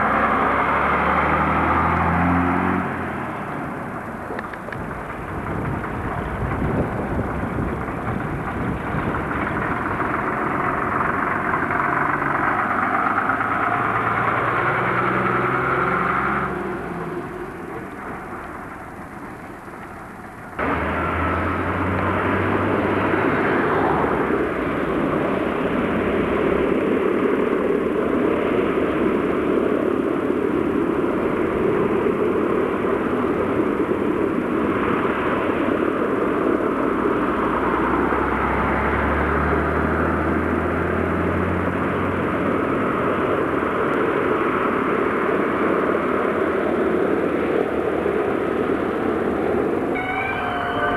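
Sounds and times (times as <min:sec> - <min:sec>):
loud engine roar: 0:00.0 - 0:50.9.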